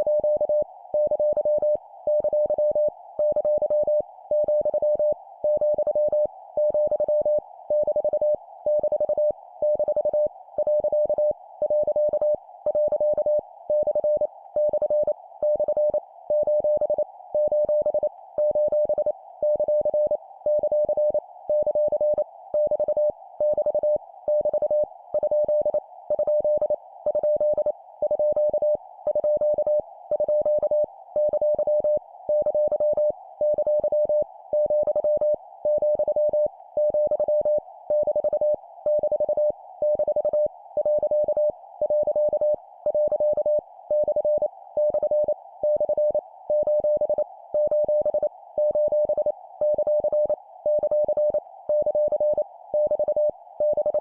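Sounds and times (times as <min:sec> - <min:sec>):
morse code beeps: 0:00.1 - 0:54.0.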